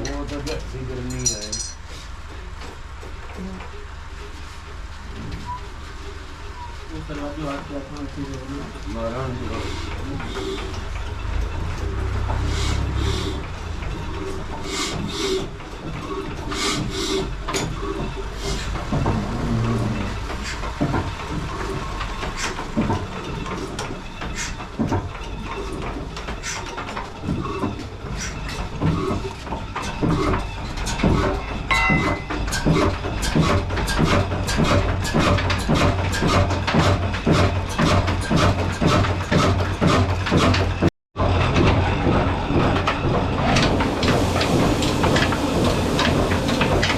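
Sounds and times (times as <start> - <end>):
diesel engine exhaust beats: 0.0 - 46.9.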